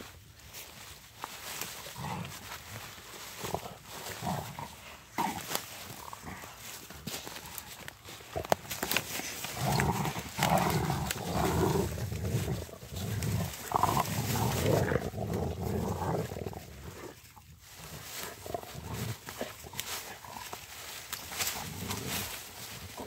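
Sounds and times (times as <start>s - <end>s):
twigs cracking: 0.0s - 23.0s
dog play-growling: 1.6s - 23.0s.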